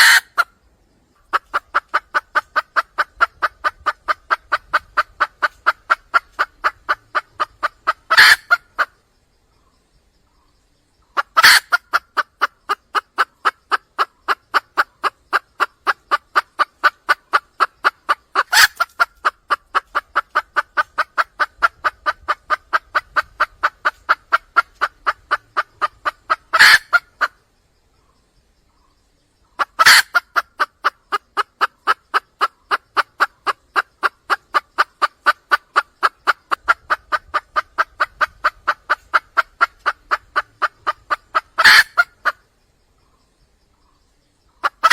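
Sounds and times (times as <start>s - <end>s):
sharp hen calls: 0.0s - 0.6s, 1.2s - 9.0s, 11.1s - 27.4s, 29.5s - 42.5s, 44.5s - 44.9s
hen clucking: 0.0s - 9.0s, 11.1s - 27.4s, 29.4s - 42.5s, 44.5s - 44.9s.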